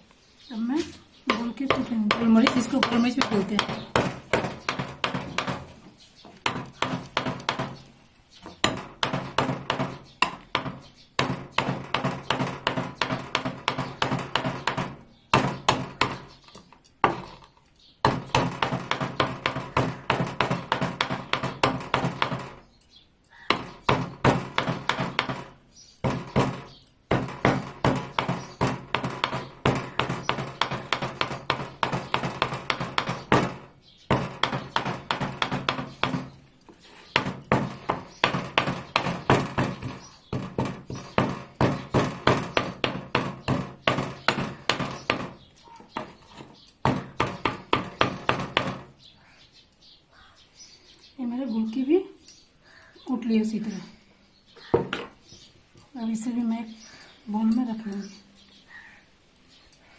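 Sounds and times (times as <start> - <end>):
pestle pounding peppercorns: 1.2 - 49.2.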